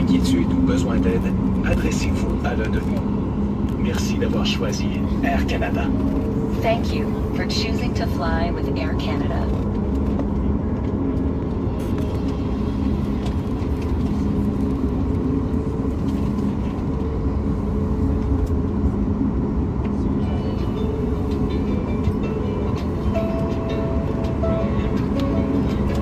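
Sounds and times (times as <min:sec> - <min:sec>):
airplane cabin low rumble: 0:00.0 - 0:26.0.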